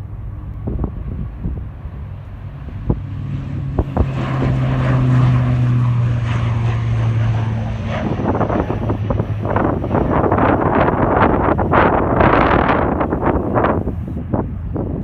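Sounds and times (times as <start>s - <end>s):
airliner engines droning: 0.0s - 15.0s
wind buffeting microphone: 0.0s - 15.0s.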